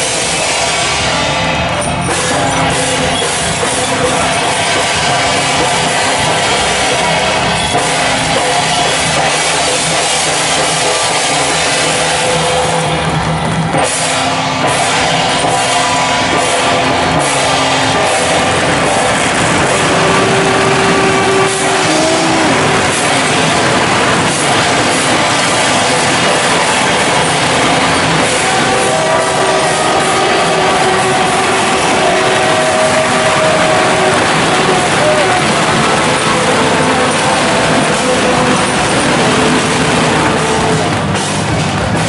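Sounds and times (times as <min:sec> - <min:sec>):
percussion band with gongs: 0:00.0 - 0:42.0.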